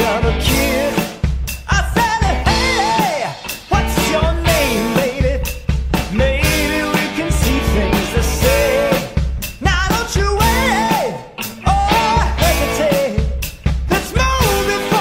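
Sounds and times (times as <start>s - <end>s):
person singing rock song: 0.0s - 15.0s
steady drum beat: 0.0s - 15.0s.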